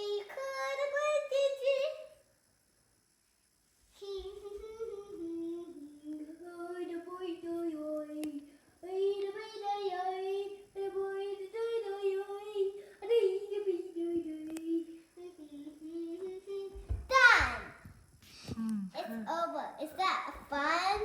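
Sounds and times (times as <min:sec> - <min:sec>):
child singing: 0:00.0 - 0:02.2, 0:04.0 - 0:17.8, 0:19.0 - 0:21.0.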